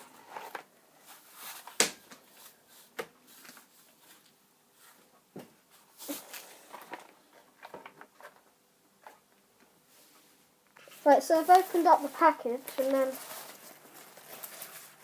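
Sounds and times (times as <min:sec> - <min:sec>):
clothing and packaging rustling: 0:00.0 - 0:09.2, 0:10.8 - 0:15.0.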